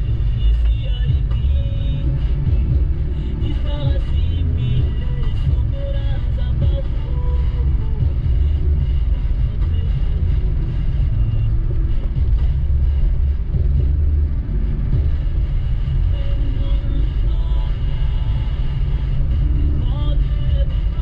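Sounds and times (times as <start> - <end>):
car driving slowly: 0.0 - 21.0.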